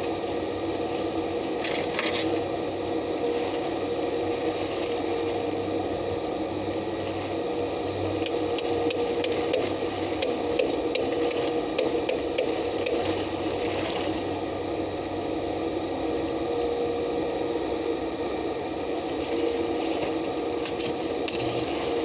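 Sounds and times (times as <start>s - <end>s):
welding arc sizzling and crackling: 0.0s - 16.3s, 18.7s - 22.0s.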